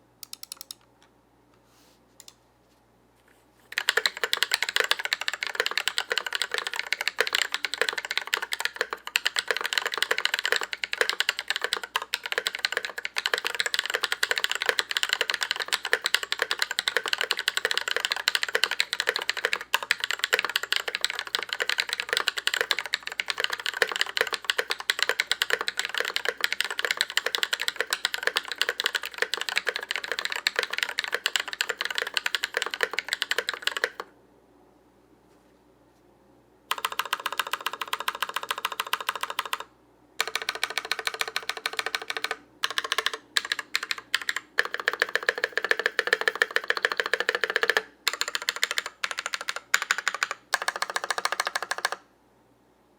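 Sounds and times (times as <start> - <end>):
mechanical keyboard typing: 0.2 - 0.8, 3.7 - 34.1, 36.7 - 52.0
rapid repeated key presses: 0.2 - 0.8, 3.7 - 34.1, 36.7 - 52.0.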